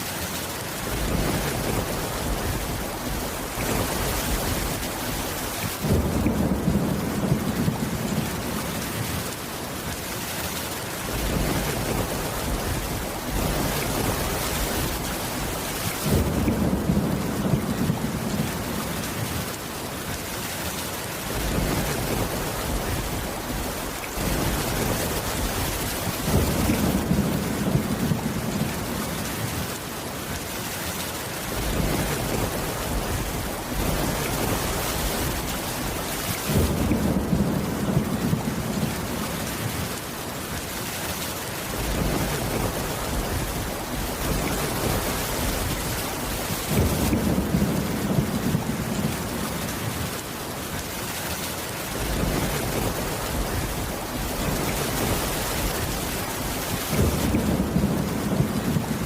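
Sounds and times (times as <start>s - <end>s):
heavy rain: 0.0s - 59.0s
thunder rumbling: 0.8s - 9.5s, 11.1s - 19.6s, 21.3s - 29.7s, 31.5s - 40.0s, 41.7s - 50.3s, 51.9s - 59.0s.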